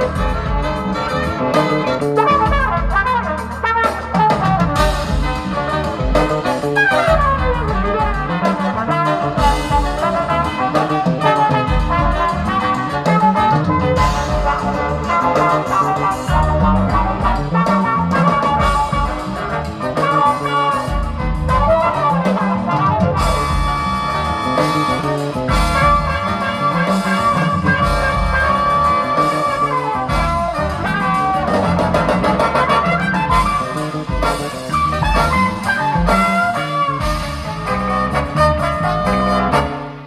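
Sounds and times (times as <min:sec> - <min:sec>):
brass section playing: 0:00.0 - 0:40.0
busy drum kit: 0:00.0 - 0:40.0.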